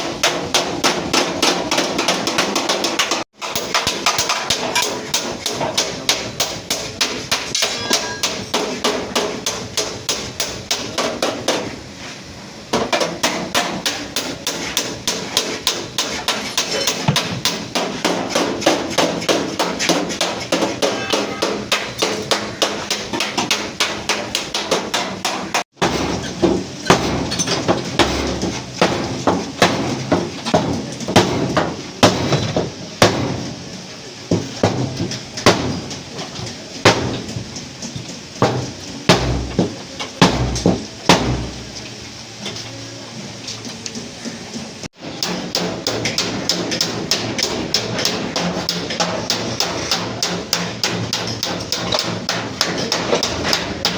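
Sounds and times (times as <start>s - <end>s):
hammer beating sheet metal: 0.0s - 11.7s, 12.7s - 33.5s, 34.3s - 36.0s, 36.8s - 37.6s, 38.4s - 41.8s, 45.1s - 53.9s.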